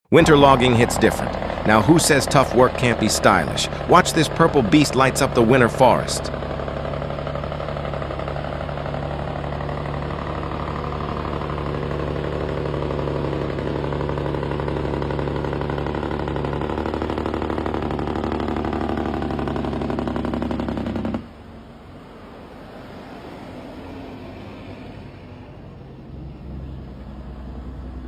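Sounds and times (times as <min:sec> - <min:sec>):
diesel truck engine drone: 0:00.0 - 0:28.0.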